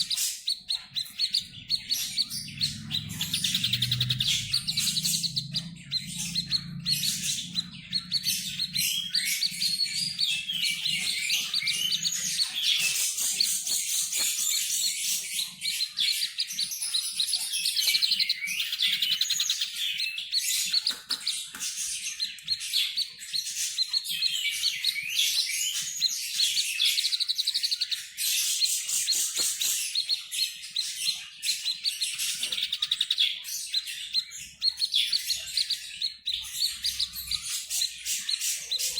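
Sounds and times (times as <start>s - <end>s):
bird chirping and twittering: 0.0s - 38.9s.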